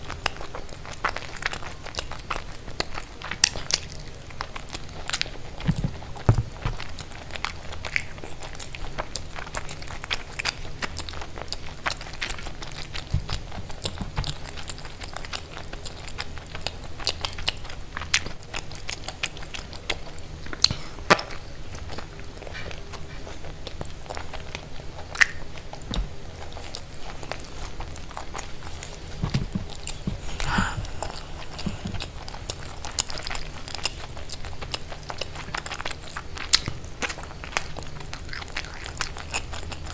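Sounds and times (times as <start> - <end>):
chewing and biting: 0.0 - 39.9.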